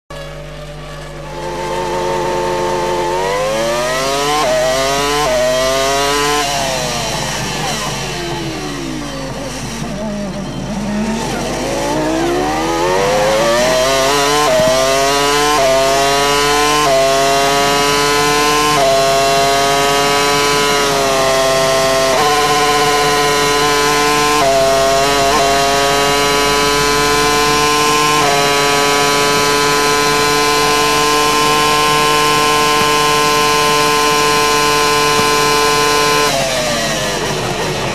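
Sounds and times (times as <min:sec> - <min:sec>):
racing car engine revving: 0:00.1 - 0:37.9.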